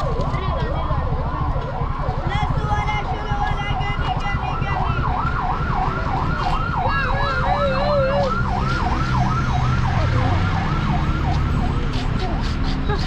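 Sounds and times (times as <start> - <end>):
lower warbling siren: 0.0 - 12.4
siren yelping: 0.0 - 13.0
traffic noise: 0.0 - 13.0.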